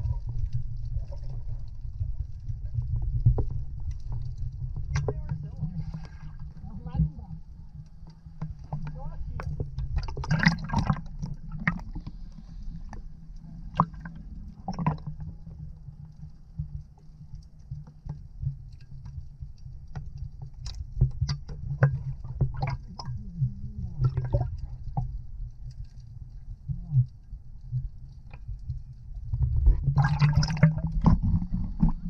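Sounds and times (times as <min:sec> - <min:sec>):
underwater rumble and sloshing: 0:00.0 - 0:32.0.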